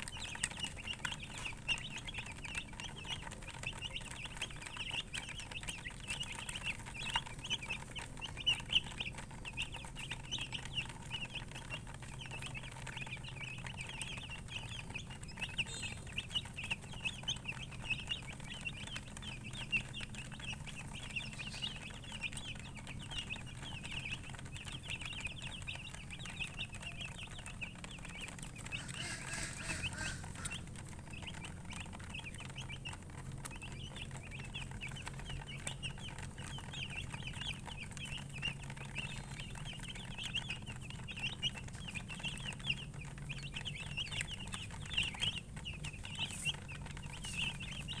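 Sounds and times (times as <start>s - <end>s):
chicks peeping: 0.0s - 48.0s
low background hum: 0.0s - 48.0s.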